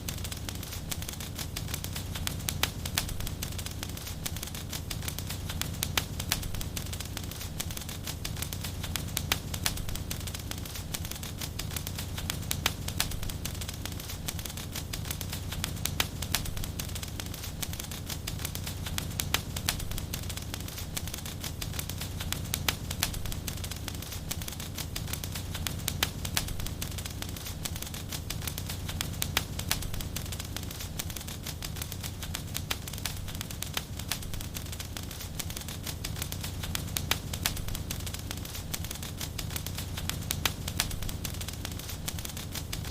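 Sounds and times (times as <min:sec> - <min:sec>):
fire crackling and popping: 0:00.0 - 0:42.9
low rumble of flames: 0:00.0 - 0:42.9.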